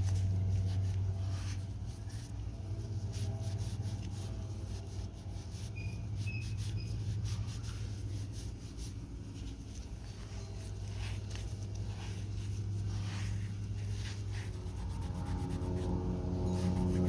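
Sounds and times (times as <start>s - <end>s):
rubbing and scraping strokes: 0.0s - 17.0s
steady low hum: 0.0s - 17.0s.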